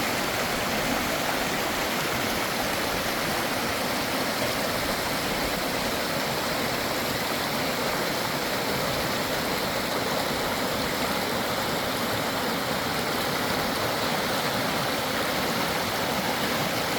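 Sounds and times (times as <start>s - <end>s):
water rushing: 0.0s - 16.9s.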